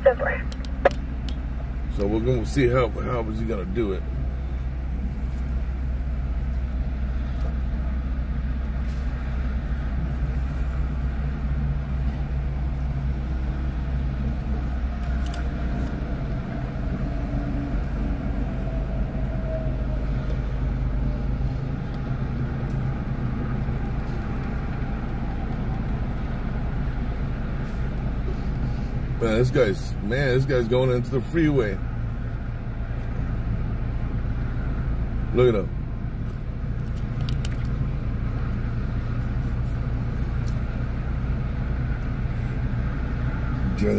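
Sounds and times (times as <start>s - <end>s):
faint engine hum: 0.0s - 43.9s
freeway traffic rumble: 0.0s - 43.9s.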